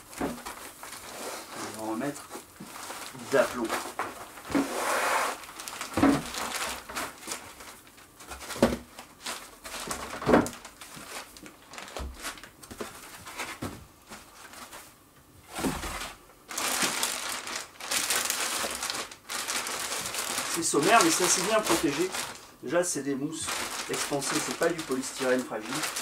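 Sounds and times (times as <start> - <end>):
plastic bag rustling: 0.0 - 26.0.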